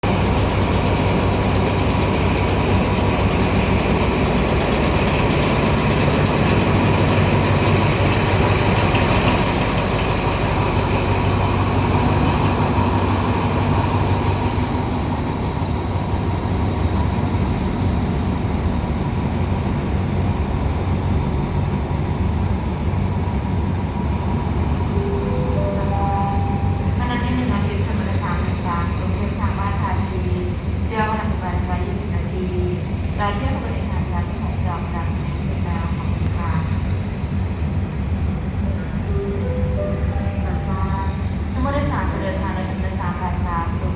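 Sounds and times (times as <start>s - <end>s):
locomotive engine drone: 0.0s - 43.9s.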